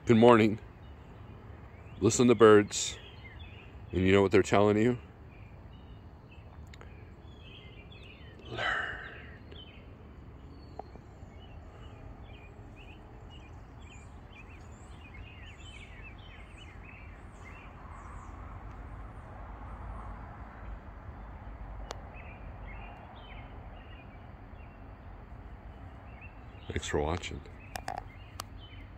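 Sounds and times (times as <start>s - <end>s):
birds chirping and singing: 0.0s - 19.0s, 21.2s - 28.9s
low background rumble: 0.0s - 28.9s.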